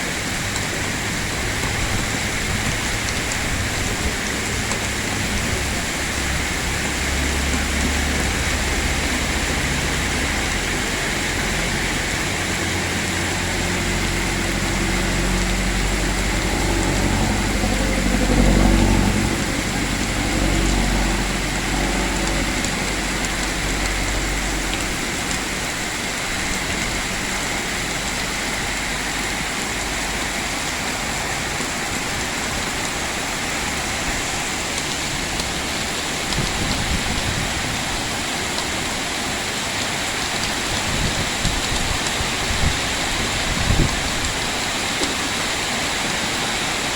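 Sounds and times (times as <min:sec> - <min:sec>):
heavy rain falling: 0:00.0 - 0:46.9
low rumble: 0:00.5 - 0:38.1.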